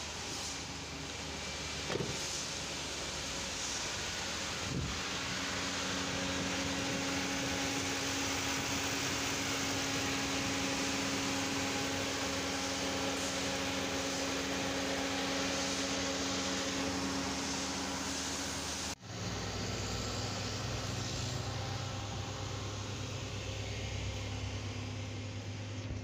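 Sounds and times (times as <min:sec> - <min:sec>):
engine fan rushing: 0:00.0 - 0:26.0
steady engine hum: 0:00.0 - 0:26.0.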